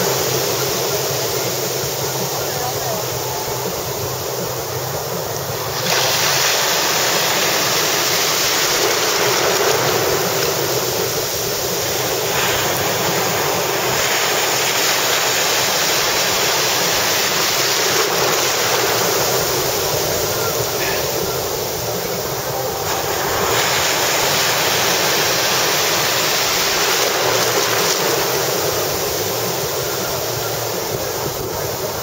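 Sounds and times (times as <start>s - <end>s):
surf breaking on beach: 0.0s - 32.0s.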